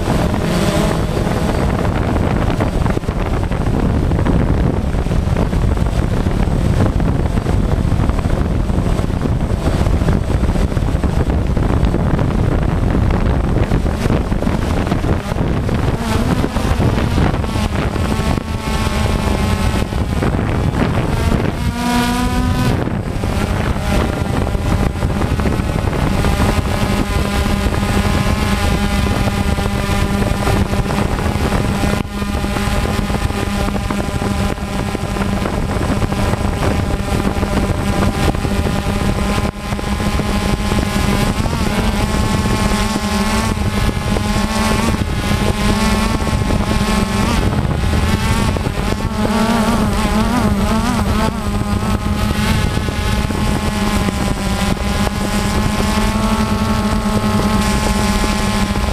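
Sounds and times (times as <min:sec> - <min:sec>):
drone propeller whine: 0:00.0 - 0:58.9
wind rumble on microphone: 0:00.0 - 0:58.9.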